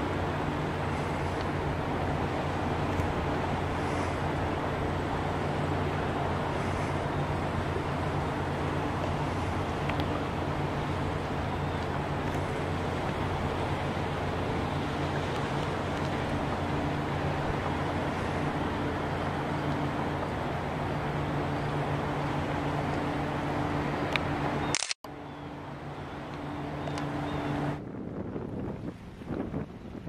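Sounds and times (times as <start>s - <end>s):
ship engine low drone: 0.0s - 30.0s.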